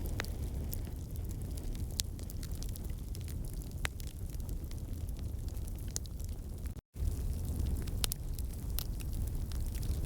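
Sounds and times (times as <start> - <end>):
burning logs crackling and popping: 0.0 - 10.0
rumble of campfire flames: 0.0 - 10.0.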